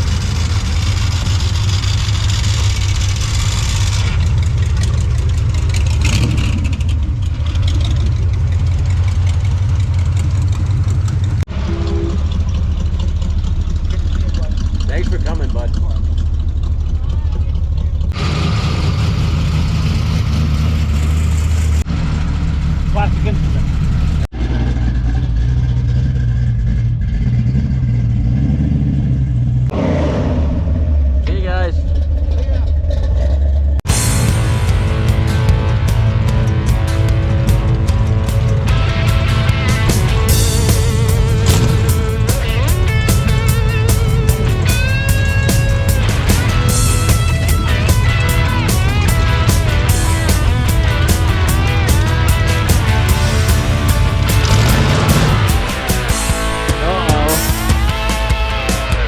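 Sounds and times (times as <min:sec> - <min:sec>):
car exhaust rumble: 0:00.0 - 0:59.0.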